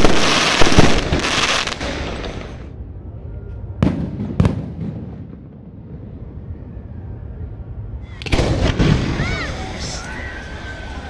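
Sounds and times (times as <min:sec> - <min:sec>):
low rolling rumble: 0:00.9 - 0:11.0.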